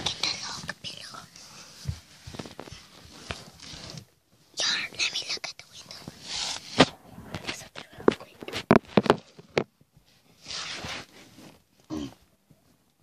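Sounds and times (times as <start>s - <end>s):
rustling: 0.0s - 12.9s.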